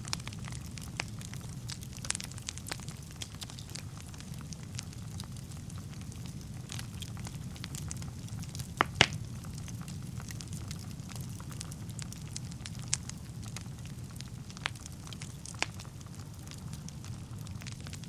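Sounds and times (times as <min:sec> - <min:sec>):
burning logs crackling: 0:00.0 - 0:18.0
fire flames rumbling: 0:00.0 - 0:18.0.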